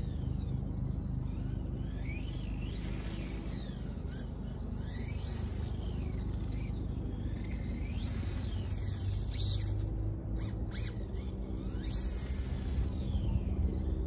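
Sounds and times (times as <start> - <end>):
remote control car motor whine: 0.0 - 14.0.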